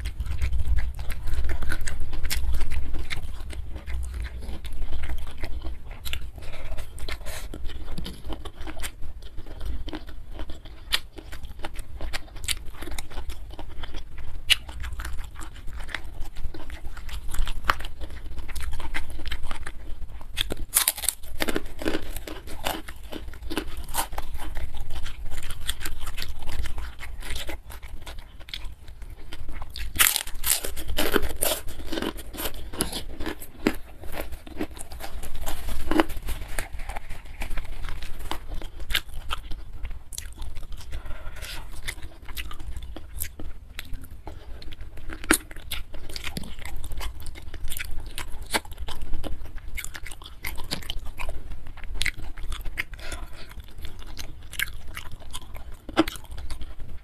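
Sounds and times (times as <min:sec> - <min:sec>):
chewing and crunching: 0:00.0 - 0:57.0
steady low hum: 0:00.0 - 0:57.0.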